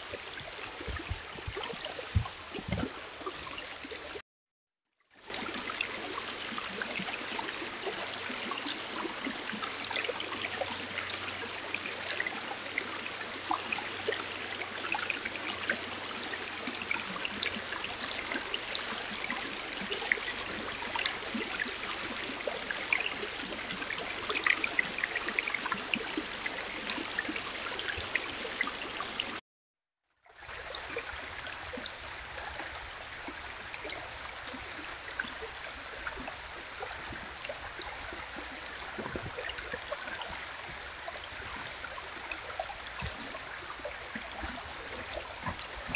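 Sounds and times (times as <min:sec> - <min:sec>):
stream babbling over stones: 0:00.0 - 0:04.2, 0:05.2 - 0:29.4, 0:30.4 - 0:45.9.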